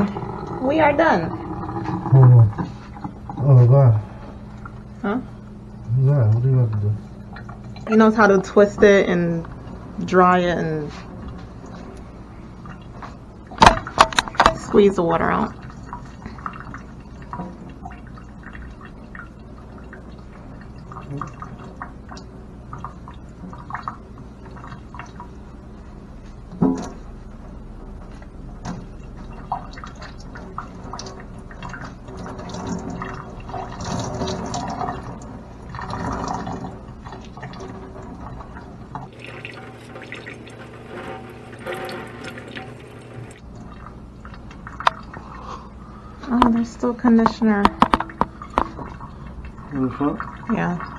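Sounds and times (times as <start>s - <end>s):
water dripping into a sink: 0.0s - 45.4s, 46.0s - 50.9s.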